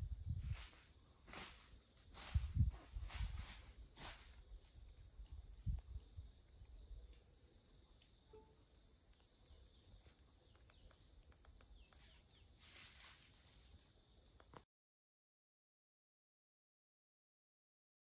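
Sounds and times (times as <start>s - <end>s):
insect chorus drone: 0.0s - 14.7s.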